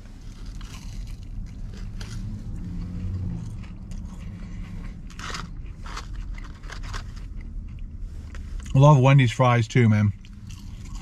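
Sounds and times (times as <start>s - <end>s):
low steady rumble: 0.0s - 11.0s
chewing crispy fries: 0.2s - 11.0s.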